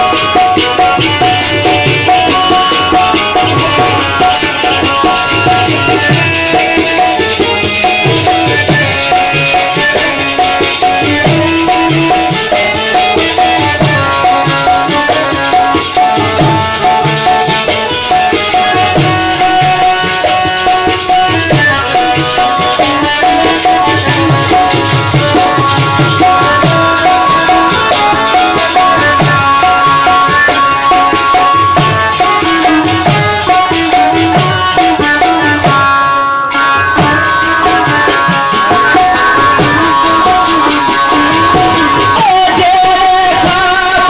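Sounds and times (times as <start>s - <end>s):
drum rhythm: 0.0s - 44.0s
harmonium playing: 0.0s - 44.0s
sitars playing: 0.0s - 44.0s.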